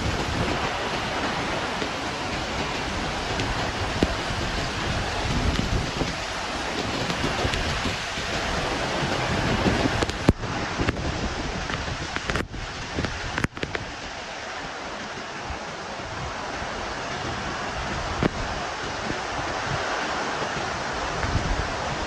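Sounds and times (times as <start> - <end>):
heavy rain: 0.0 - 22.0
wind rumbling on microphone: 0.0 - 22.0.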